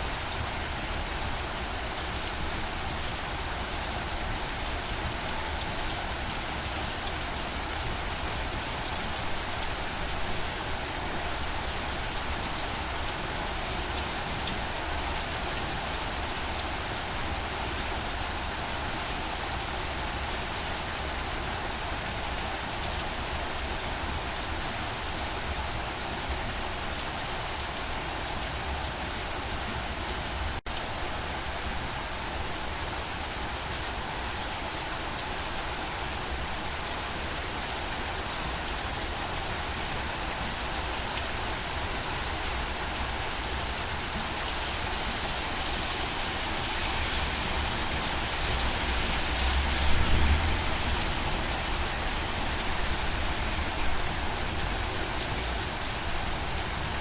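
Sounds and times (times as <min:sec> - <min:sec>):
steady rain on a surface: 0:00.0 - 0:57.0.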